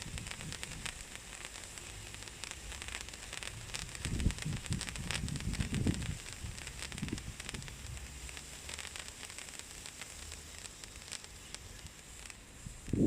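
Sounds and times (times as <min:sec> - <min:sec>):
sparkler crackling fizz: 0:00.0 - 0:13.0.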